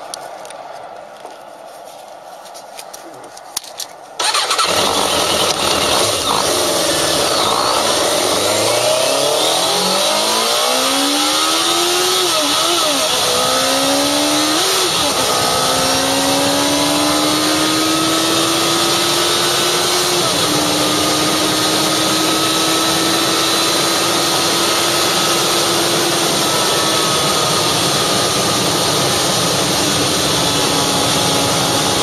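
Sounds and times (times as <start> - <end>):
motorcycle engine accelerating: 4.2 - 32.0.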